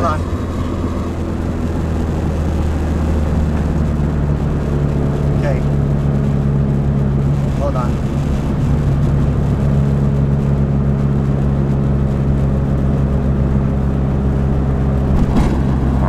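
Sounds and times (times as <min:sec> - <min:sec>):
car engine cruising: 0:00.0 - 0:16.0
road noise: 0:00.0 - 0:16.0.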